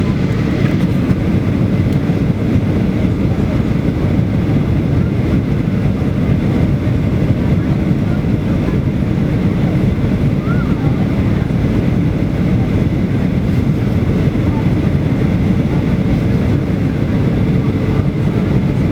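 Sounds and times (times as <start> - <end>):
airliner cabin rumble: 0.0 - 18.9.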